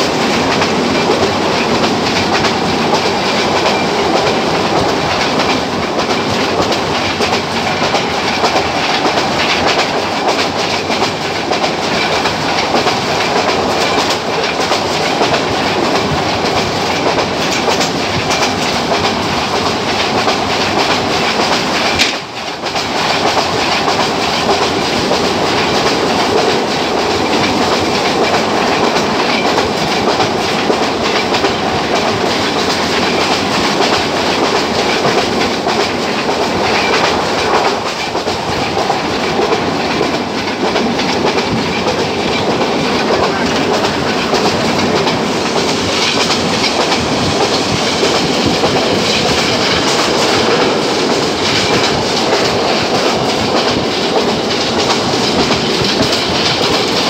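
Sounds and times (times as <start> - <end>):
passenger train running on track: 0.0 - 57.0.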